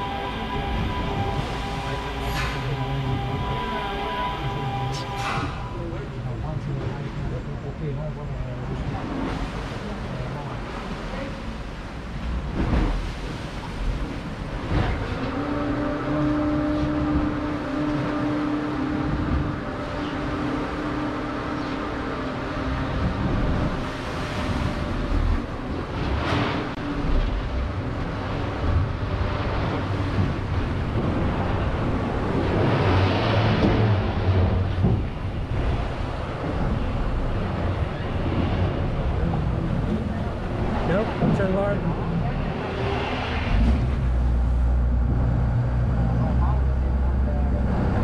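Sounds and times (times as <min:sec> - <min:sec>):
boat engines humming: 0:00.0 - 0:48.0
wind and water rushing: 0:00.0 - 0:48.0.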